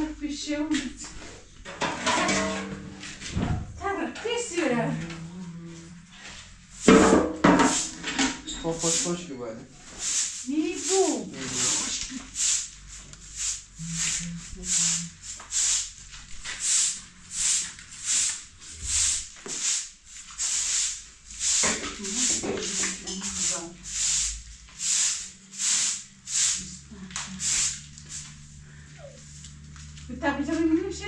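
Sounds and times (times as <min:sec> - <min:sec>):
broom sweeping concrete floor: 0:00.7 - 0:03.4, 0:05.8 - 0:31.0.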